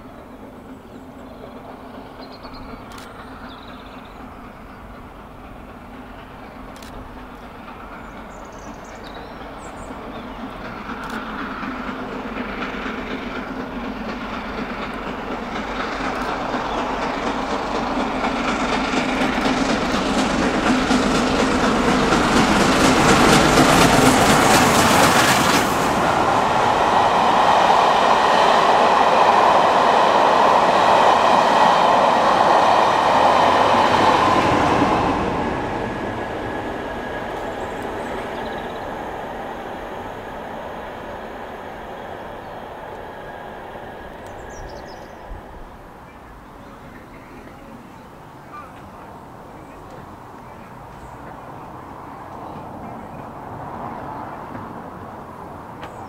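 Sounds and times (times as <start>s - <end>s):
steam locomotive working beats: 0.0s - 56.0s
train wheels rumbling on rails: 0.0s - 56.0s.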